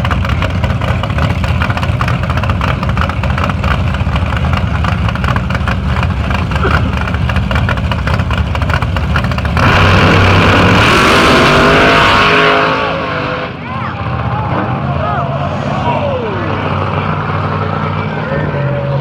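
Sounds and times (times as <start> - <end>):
drag car engine: 0.0 - 19.0.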